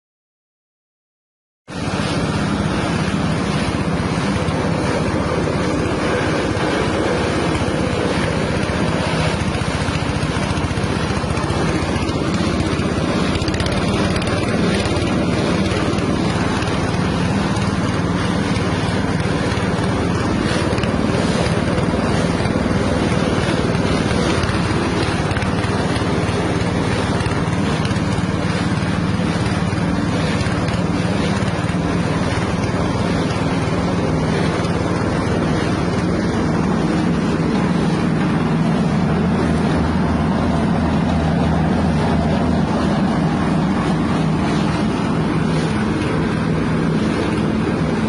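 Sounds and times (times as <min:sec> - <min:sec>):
petrol engine drone: 0:01.7 - 0:48.0
spinning cutter hiss: 0:01.8 - 0:48.0.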